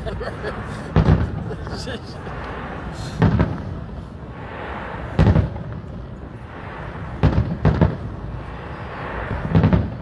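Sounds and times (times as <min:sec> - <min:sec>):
fireworks booming: 0:00.0 - 0:10.0
low rumbling echo: 0:00.0 - 0:10.0.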